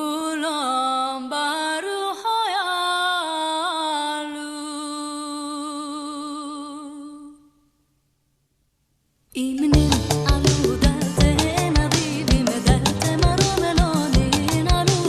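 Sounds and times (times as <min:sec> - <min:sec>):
woman singing unaccompanied: 0:00.0 - 0:07.6, 0:09.3 - 0:15.0.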